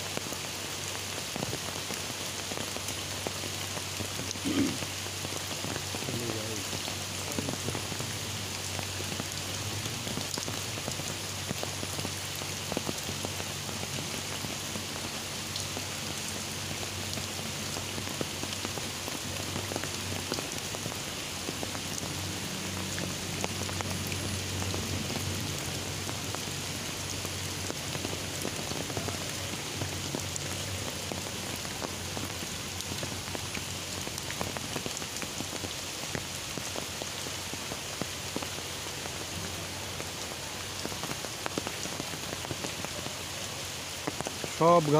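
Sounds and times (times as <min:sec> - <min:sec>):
heavy rain pouring: 0:00.0 - 0:44.9
raindrops ticking on umbrella: 0:00.0 - 0:44.9.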